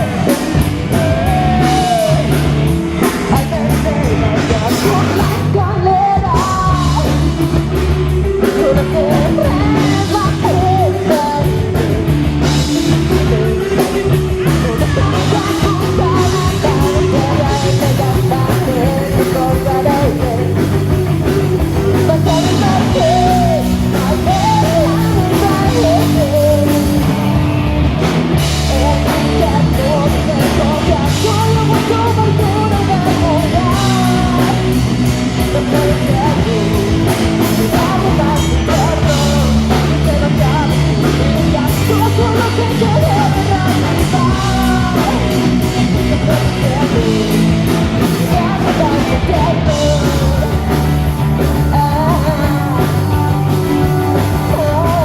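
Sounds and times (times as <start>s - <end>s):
bass guitar: 0.0s - 55.0s
distorted guitar: 0.0s - 55.0s
drum kit: 0.0s - 55.0s
person singing: 0.0s - 55.0s.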